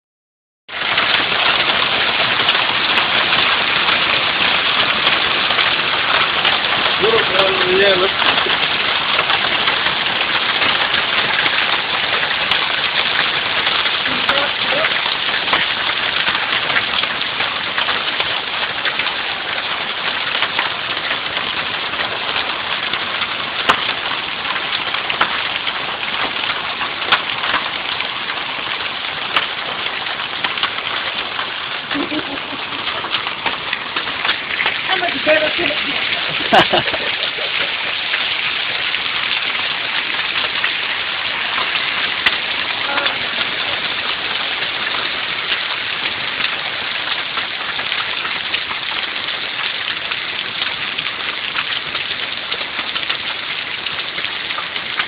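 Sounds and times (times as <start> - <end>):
heavy rain falling: 0.7 - 55.0.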